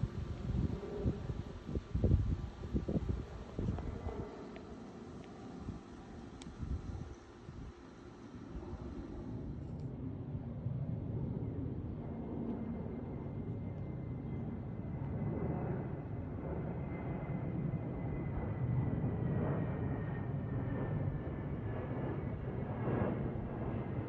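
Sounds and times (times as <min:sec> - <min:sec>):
jet airliner passing overhead: 0:00.0 - 0:24.0.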